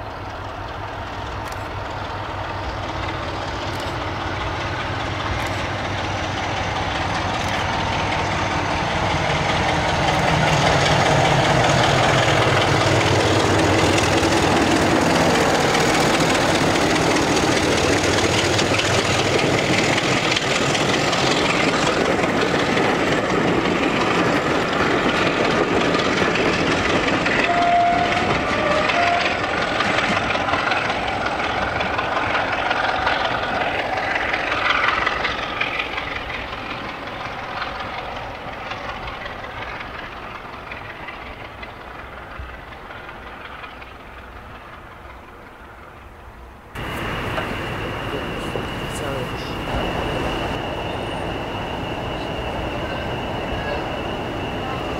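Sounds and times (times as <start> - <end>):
diesel locomotive engine working: 0.0 - 54.9
train coaches rumbling over rails: 0.0 - 54.9.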